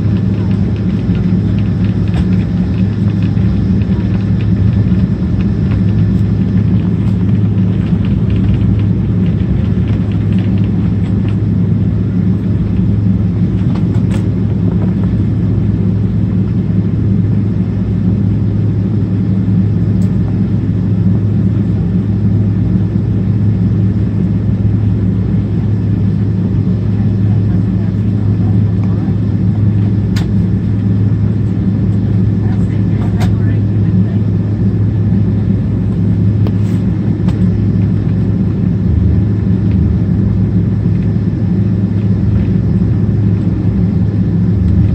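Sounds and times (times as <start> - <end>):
aircraft cabin rumble and hum: 0.0 - 44.9.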